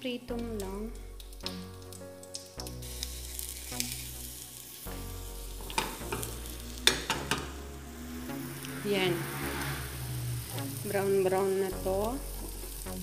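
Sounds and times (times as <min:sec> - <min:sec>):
batter sizzling in a frying pan: 0:00.0 - 0:13.0.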